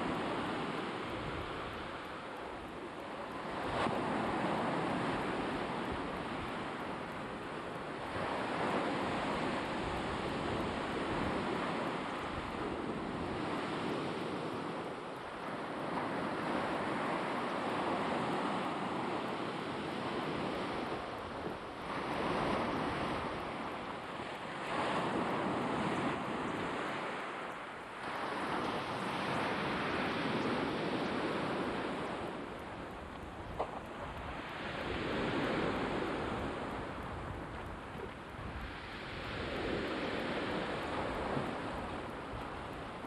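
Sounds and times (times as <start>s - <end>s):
waves washing onto shore: 0.0s - 43.0s
wind on microphone: 0.0s - 43.0s.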